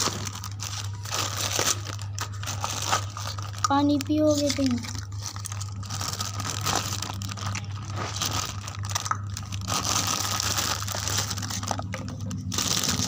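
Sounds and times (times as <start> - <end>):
rustling and crinkling handling: 0.0 - 13.0
steady low hum: 0.0 - 13.0.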